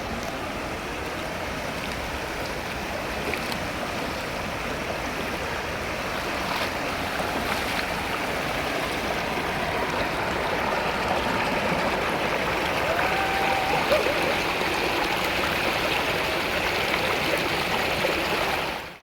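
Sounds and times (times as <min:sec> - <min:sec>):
flowing stream rushing: 0:00.0 - 0:19.0.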